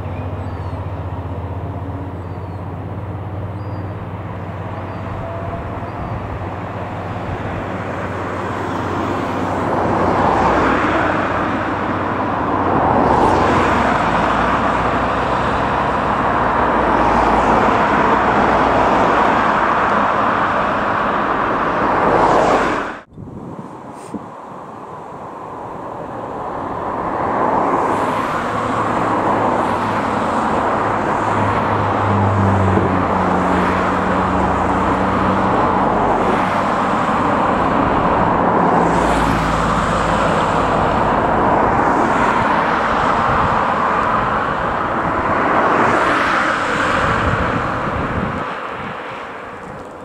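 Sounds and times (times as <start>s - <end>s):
diesel locomotive engine drone: 0.0s - 50.0s
wheels rumbling on rail: 0.0s - 50.0s.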